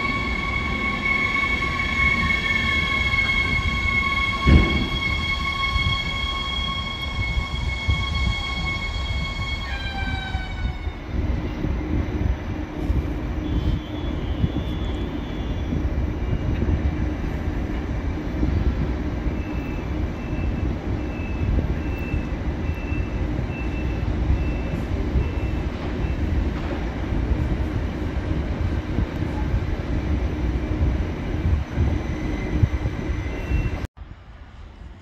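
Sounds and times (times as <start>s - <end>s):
train rumbling past: 0.0s - 35.0s.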